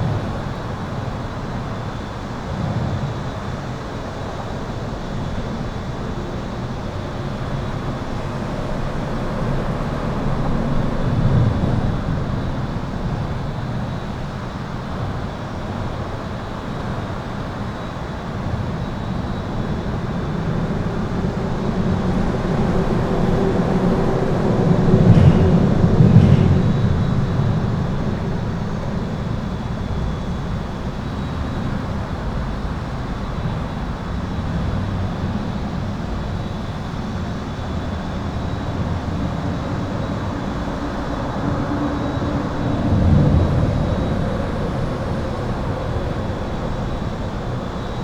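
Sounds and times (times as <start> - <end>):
highway traffic rumble: 0.0 - 48.0.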